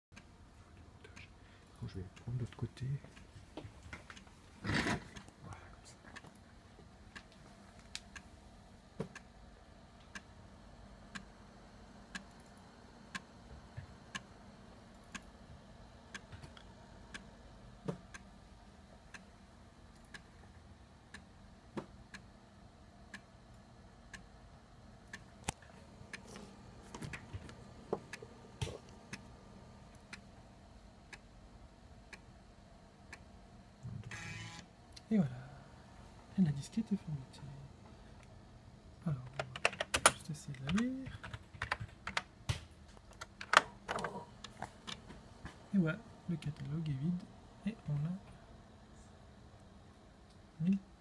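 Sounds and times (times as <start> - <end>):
faint steady hum: 0.1 - 51.0.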